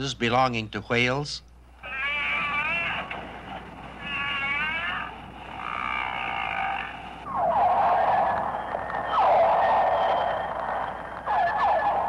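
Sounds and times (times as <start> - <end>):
whale calls: 1.8 - 12.0.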